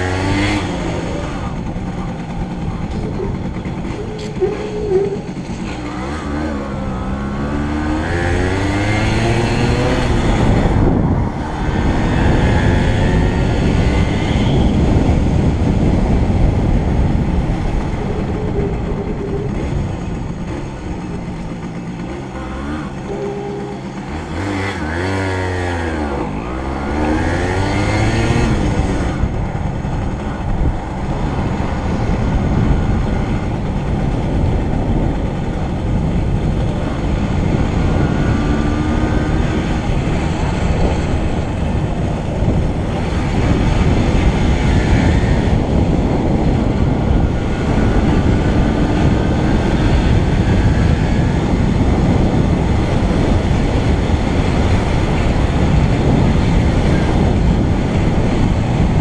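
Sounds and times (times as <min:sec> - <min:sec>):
vehicle wind and road noise: 0:00.0 - 0:59.0.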